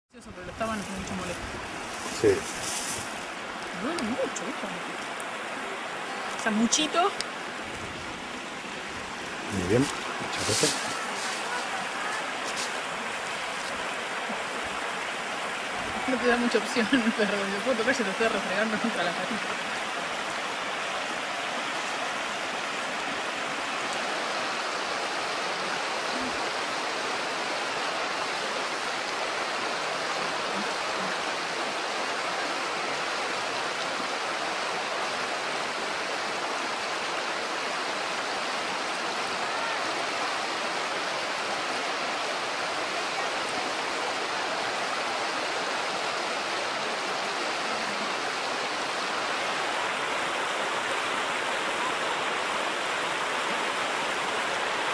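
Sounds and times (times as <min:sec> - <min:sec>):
river rushing over stones: 0:00.2 - 0:54.9.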